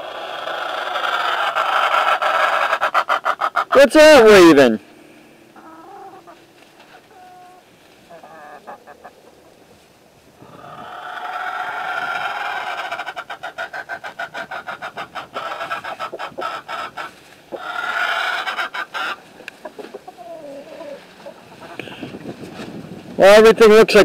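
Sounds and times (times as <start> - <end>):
chicken drawn-out call: 0.0 - 3.9, 5.0 - 9.8, 10.4 - 22.2
chickens clucking: 0.0 - 22.8.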